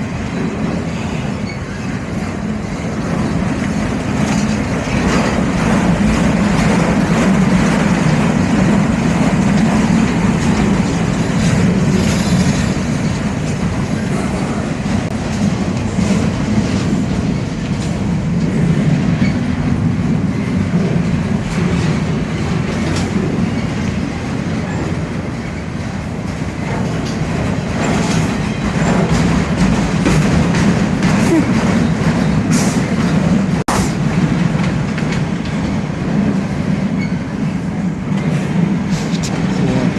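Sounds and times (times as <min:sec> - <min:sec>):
freight train rumbling: 0:00.0 - 0:39.9
wheels clicking over rail joints: 0:01.4 - 0:39.9.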